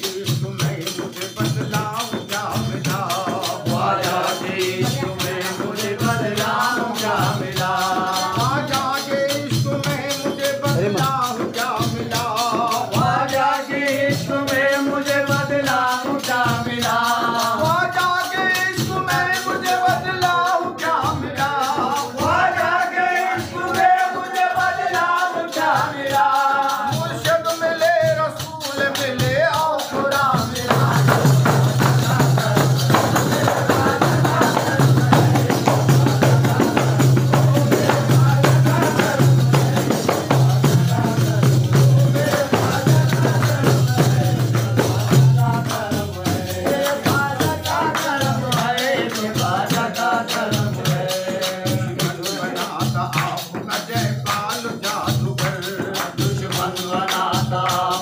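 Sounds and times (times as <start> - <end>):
frame drums beating: 0.0 - 58.0
men singing a chant: 0.0 - 58.0.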